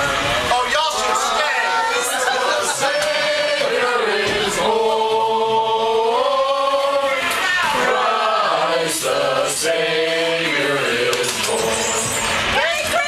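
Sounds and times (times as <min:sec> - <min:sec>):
group singing a carol: 0:01.0 - 0:12.6.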